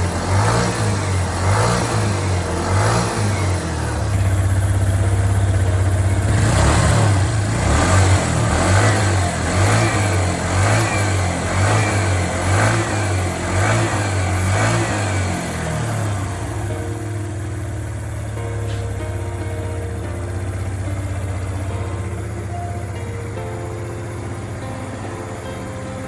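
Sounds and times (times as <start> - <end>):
moped engine revving: 0.0 - 26.0.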